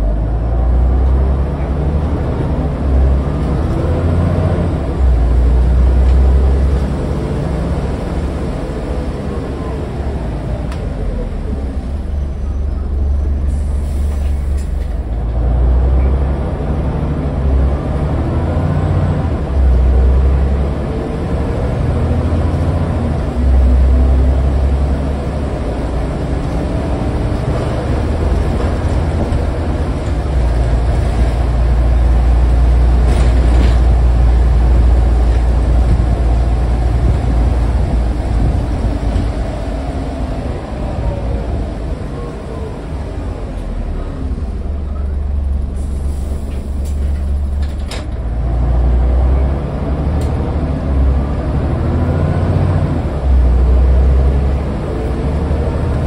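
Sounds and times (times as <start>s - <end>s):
bus engine rumble: 0.0s - 56.0s.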